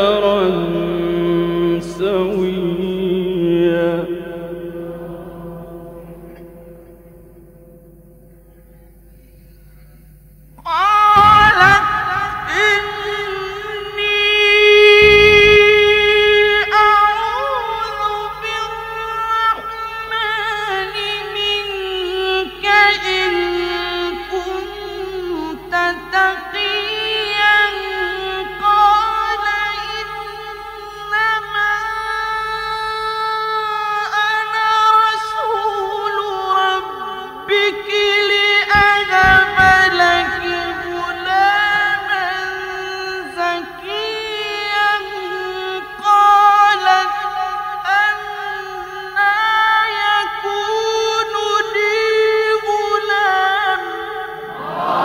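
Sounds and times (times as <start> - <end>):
man reciting melodically: 0.0 - 6.9, 10.6 - 55.0.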